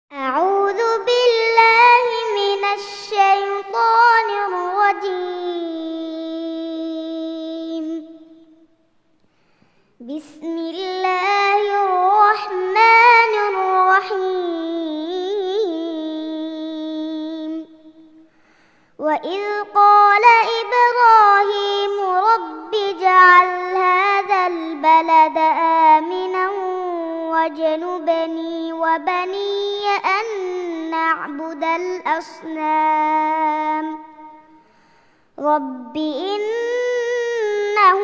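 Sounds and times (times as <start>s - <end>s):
girl reciting melodically: 0.1s - 8.8s, 10.0s - 38.0s.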